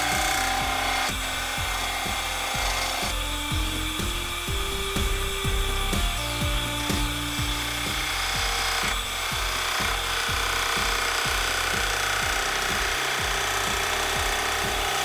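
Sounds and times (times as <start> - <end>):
background music with steady beat: 0.0 - 15.0
turning tool cutting wood: 0.0 - 15.0
wood lathe running: 0.0 - 15.0.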